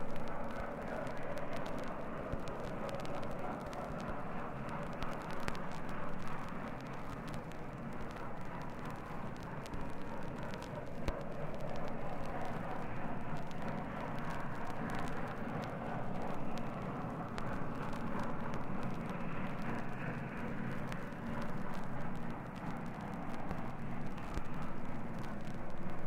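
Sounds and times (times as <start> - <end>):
vinyl record crackle: 0.0 - 26.0.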